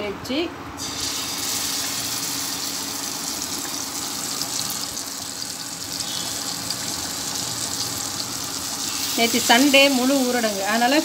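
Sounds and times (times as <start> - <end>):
fish sizzling in oil: 0.8 - 11.0.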